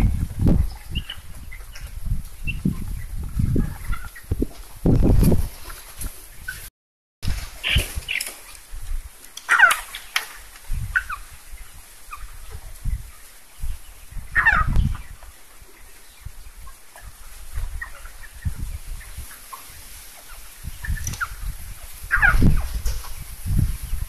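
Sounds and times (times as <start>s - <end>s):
chickens calling: 0.0s - 6.7s, 7.6s - 24.0s.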